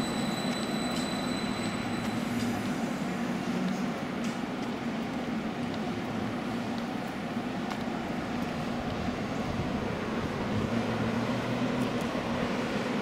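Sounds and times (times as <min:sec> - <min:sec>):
light-rail train humming: 0:00.0 - 0:13.0
outdoor background noise: 0:00.0 - 0:13.0.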